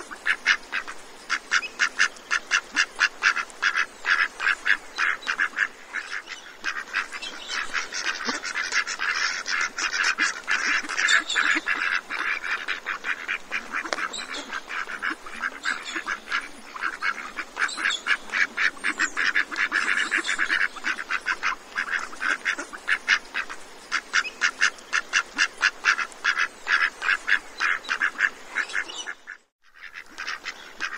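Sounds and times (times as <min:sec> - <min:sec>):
flock of ducks quacking: 0:00.0 - 0:30.9.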